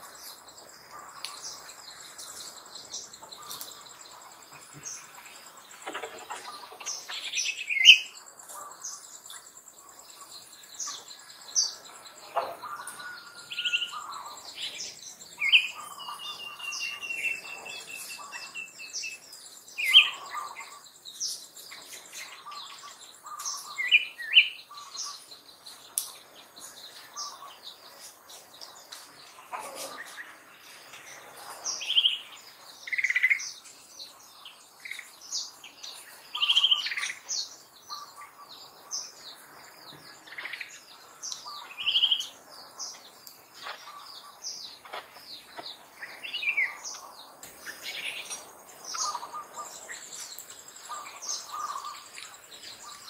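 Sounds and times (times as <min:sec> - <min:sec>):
birds calling and chirping: 0:00.0 - 0:53.0
faint insect drone: 0:00.0 - 0:53.0.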